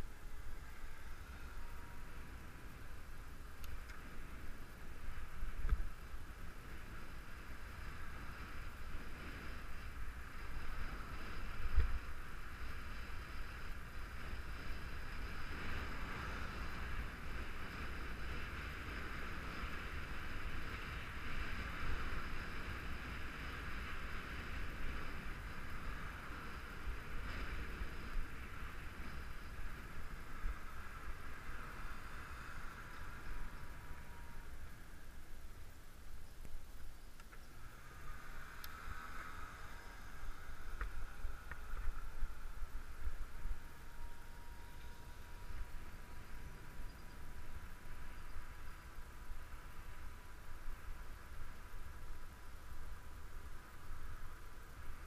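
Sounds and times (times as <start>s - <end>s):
road rumble: 0.0s - 55.0s
wind: 0.0s - 55.0s.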